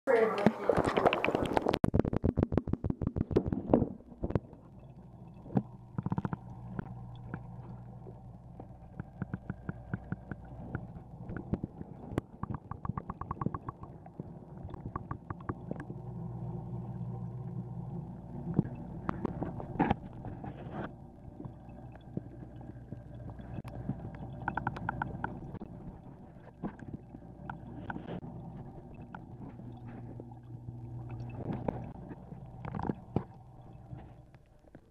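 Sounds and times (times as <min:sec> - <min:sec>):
muffled underwater hum: 0:00.1 - 0:34.9.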